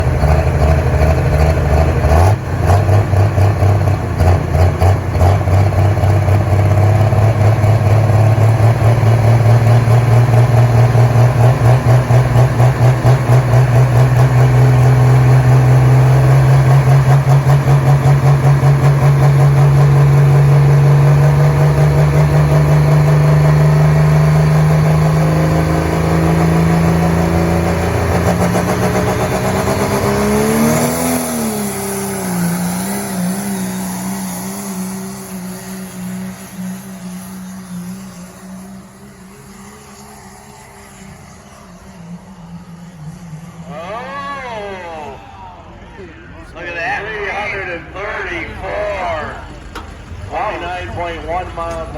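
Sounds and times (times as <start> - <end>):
truck engine under heavy load: 0.0 - 51.9.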